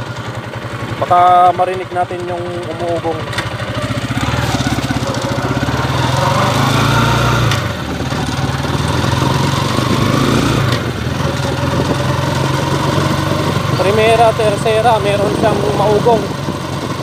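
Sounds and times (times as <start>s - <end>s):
engine drone: 0.0s - 17.0s
motorcycle engine revving: 0.0s - 17.0s.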